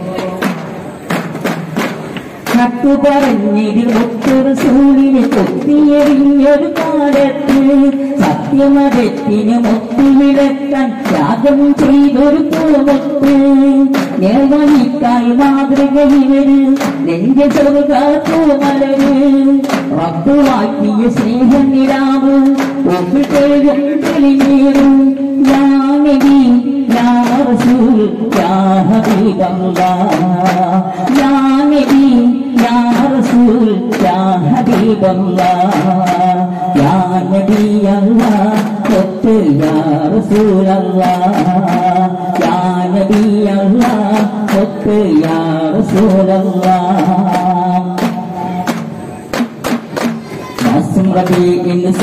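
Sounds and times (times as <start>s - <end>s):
person singing: 0.0s - 0.6s, 2.5s - 49.4s, 50.0s - 52.0s
frame drums beating: 0.0s - 52.0s.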